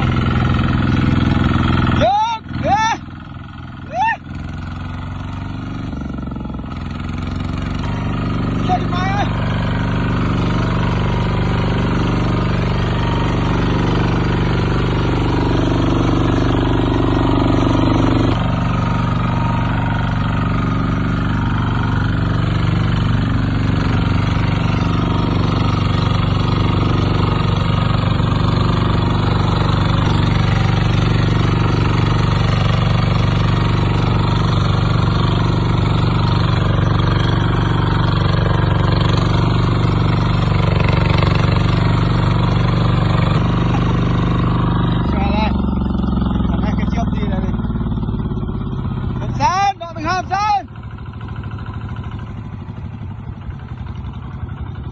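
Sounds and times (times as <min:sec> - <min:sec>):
diesel engine chugging: 0:00.0 - 0:54.9.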